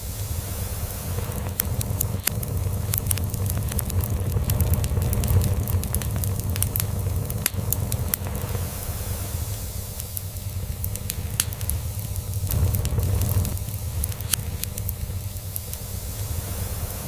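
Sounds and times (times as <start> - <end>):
log fire crackling and popping: 0.0 - 17.0.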